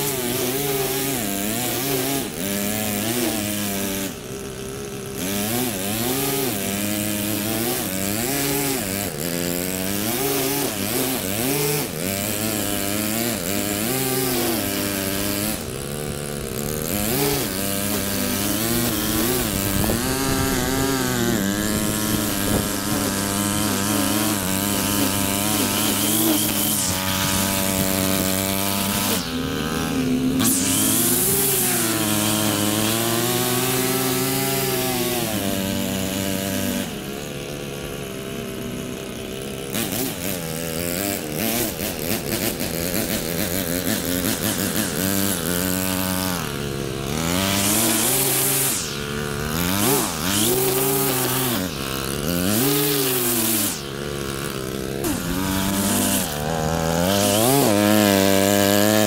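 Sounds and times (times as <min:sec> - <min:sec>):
string trimmer cutting grass: 0:00.0 - 0:59.0.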